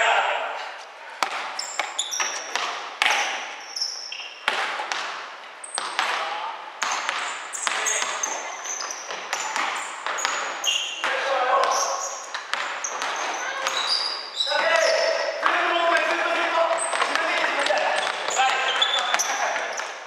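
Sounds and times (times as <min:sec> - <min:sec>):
basketball bouncing on wooden floor: 0:01.2 - 0:03.5, 0:04.4 - 0:20.0
sneakers squeaking on court: 0:01.2 - 0:20.0.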